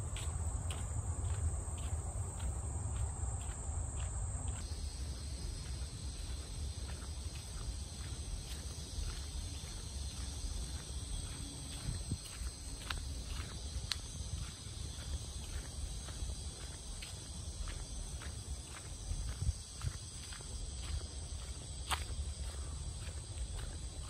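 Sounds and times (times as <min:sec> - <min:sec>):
footsteps on dirt path: 0:00.0 - 0:24.0
insects buzzing: 0:00.0 - 0:24.0.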